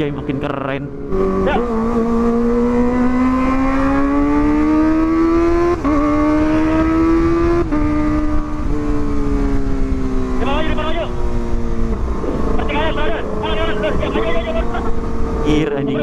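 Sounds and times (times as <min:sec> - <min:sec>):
low wind rumble: 0:00.0 - 0:16.0
motorcycle engine accelerating: 0:00.0 - 0:16.0.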